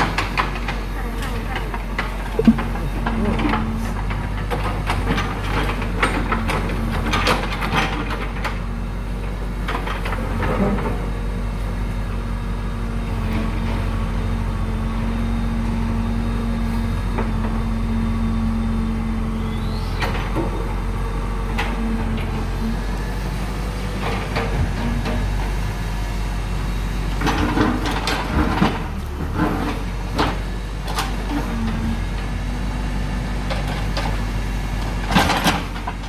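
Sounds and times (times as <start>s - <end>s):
digger diesel engine running: 0.0s - 36.0s.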